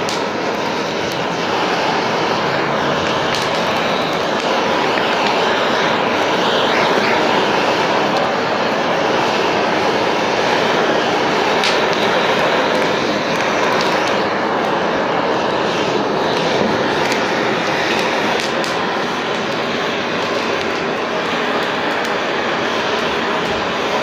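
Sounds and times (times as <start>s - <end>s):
blowtorch flame hissing: 0.0s - 24.0s.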